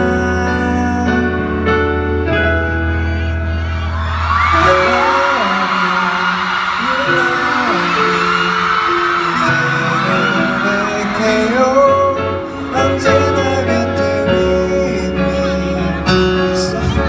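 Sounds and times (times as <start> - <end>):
man singing into a microphone: 0.0 - 1.9, 4.6 - 17.0
pop backing track: 0.0 - 17.0.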